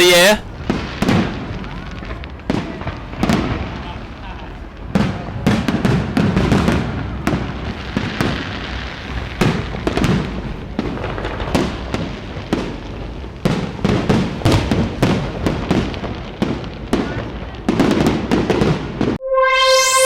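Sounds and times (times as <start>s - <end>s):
fireworks bangs and crackles: 0.0s - 19.2s.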